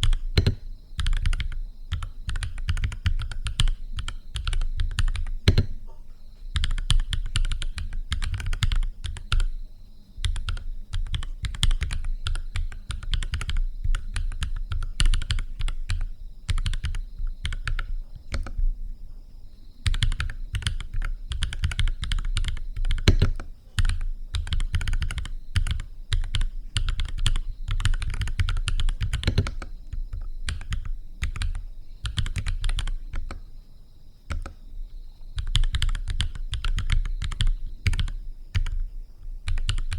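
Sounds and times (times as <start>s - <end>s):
mechanical keyboard typing: 0.0s - 5.8s, 6.6s - 9.5s, 10.2s - 18.6s, 19.8s - 33.4s, 34.3s - 34.6s, 35.4s - 38.9s, 39.5s - 39.9s.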